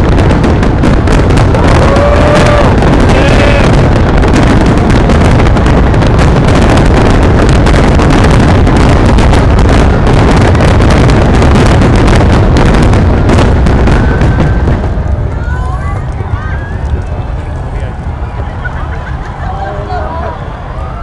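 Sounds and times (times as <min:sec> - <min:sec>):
fireworks barrage: 0:00.0 - 0:21.0.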